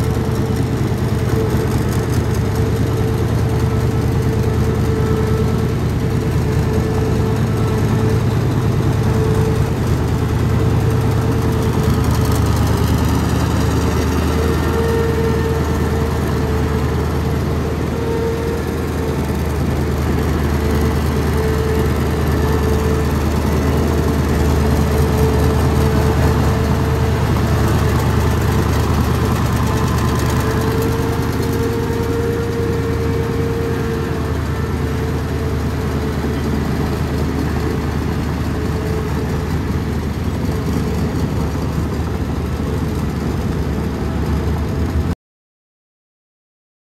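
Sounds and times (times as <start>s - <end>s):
diesel tractor engine droning: 0.0s - 45.2s.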